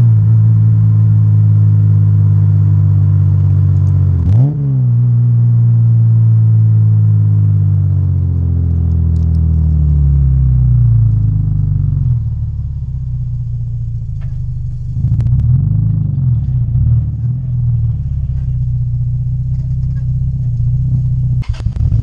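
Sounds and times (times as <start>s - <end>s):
car engine revving while driving: 0.0s - 22.0s.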